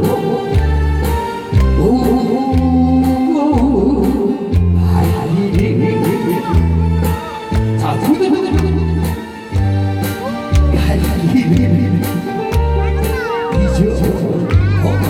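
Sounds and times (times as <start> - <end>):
upbeat music with bass and drums: 0.0 - 15.0.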